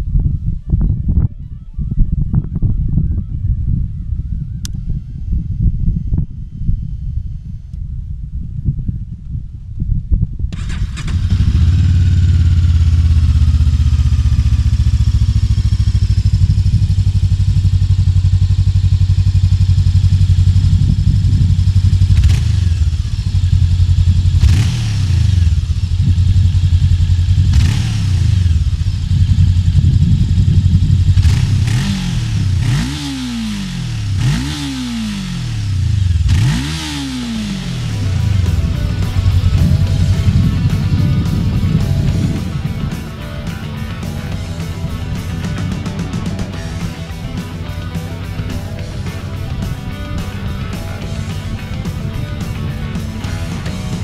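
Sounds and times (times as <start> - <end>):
motorcycle engine idling and revving: 10.4 - 54.0.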